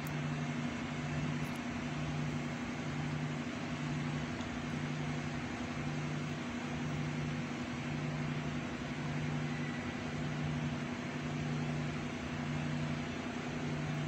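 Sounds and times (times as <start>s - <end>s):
machine hum with fan hiss: 0.0s - 14.0s.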